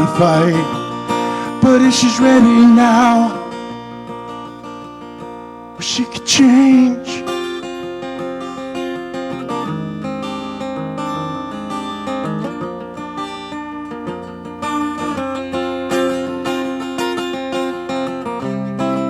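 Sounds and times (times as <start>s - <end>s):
acoustic guitar strummed and picked: 0.0s - 19.0s.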